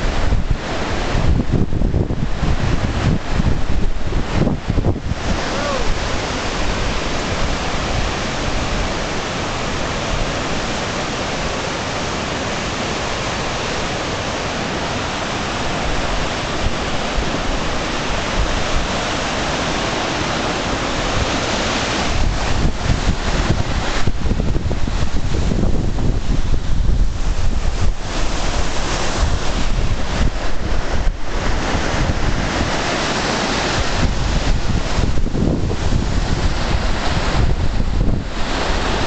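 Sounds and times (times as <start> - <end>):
floodwater rushing: 0.0 - 39.0
wind buffeting microphone: 0.0 - 39.0.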